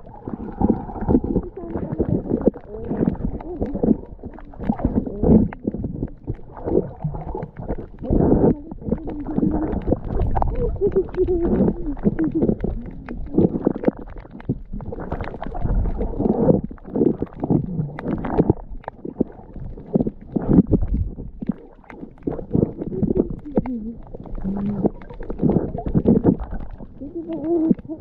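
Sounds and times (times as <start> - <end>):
underwater rumbling and sloshing: 0.0 - 28.0.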